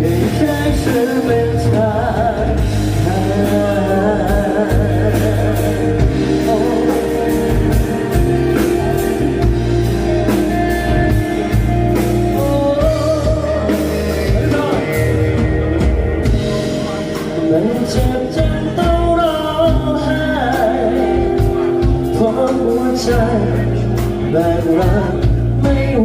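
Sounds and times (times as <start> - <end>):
drums beating: 0.0 - 26.0
live band playing pop-rock: 0.0 - 26.0.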